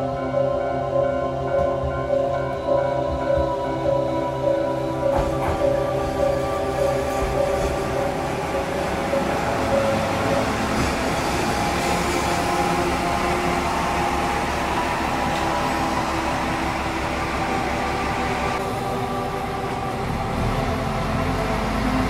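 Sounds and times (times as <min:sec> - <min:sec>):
diesel railcar engine droning: 0:00.0 - 0:22.0.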